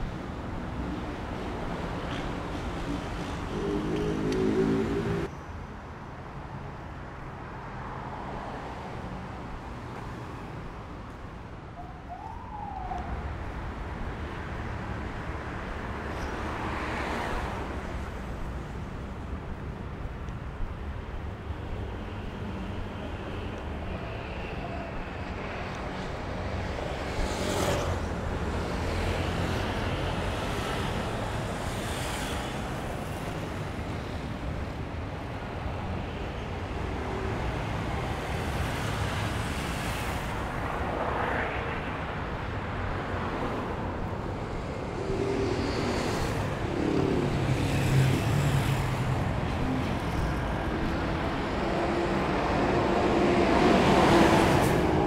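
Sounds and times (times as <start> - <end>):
cars passing: 0.0 - 5.3, 7.2 - 55.0.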